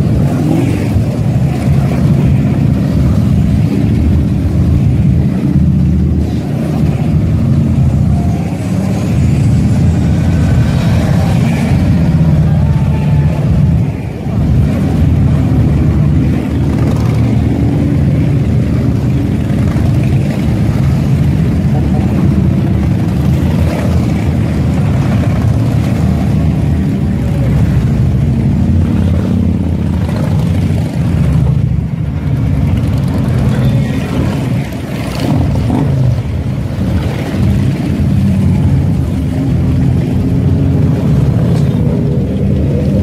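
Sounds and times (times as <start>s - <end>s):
motorcycles riding past: 0.0s - 43.0s.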